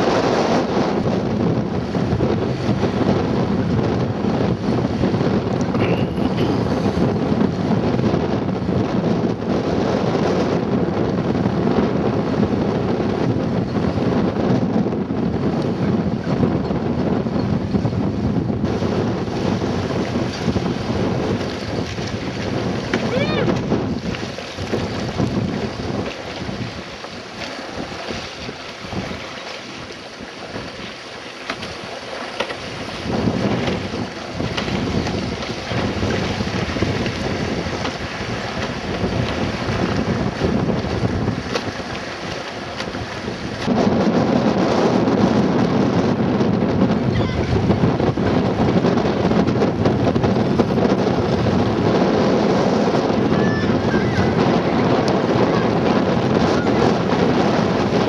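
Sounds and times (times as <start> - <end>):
choppy lake water: 0.0 - 58.0
wind buffeting microphone: 0.0 - 58.0.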